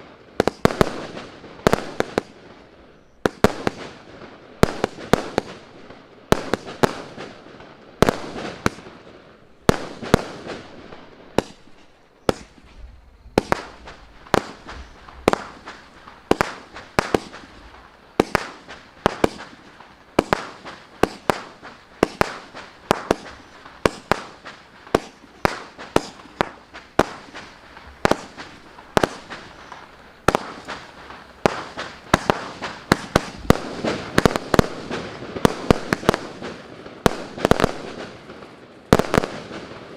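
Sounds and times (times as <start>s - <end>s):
firework bangs with crackling: 0.0s - 39.9s.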